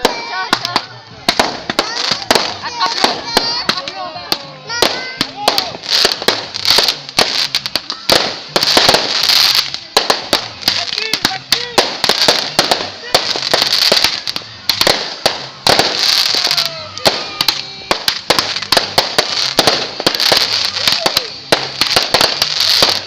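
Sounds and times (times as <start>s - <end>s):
small fireworks crackling: 0.0s - 23.0s.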